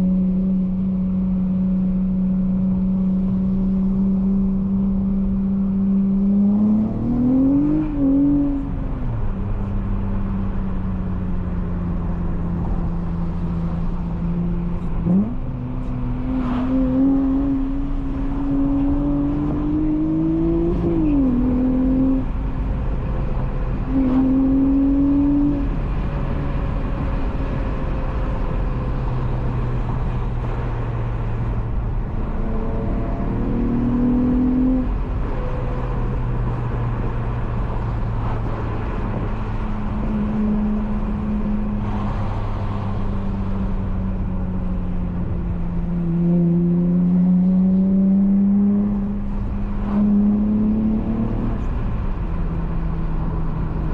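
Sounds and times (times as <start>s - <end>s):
car engine accelerating and cruising: 0.0s - 53.9s.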